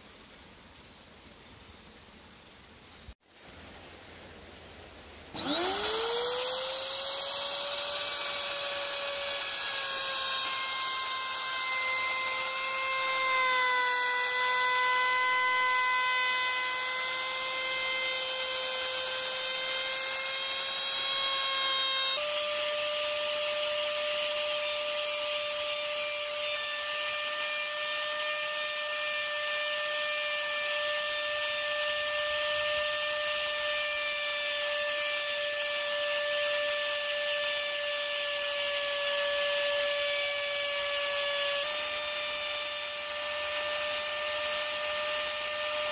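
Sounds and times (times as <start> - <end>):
router bit cutting wood: 5.3 - 45.9
router motor whining: 5.3 - 45.9.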